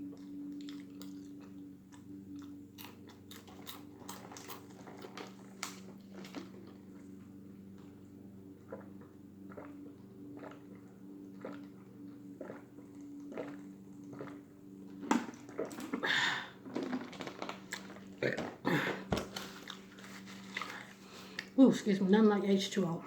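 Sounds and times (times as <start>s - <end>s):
person chewing crunchy food: 0.0s - 8.0s, 8.6s - 21.6s.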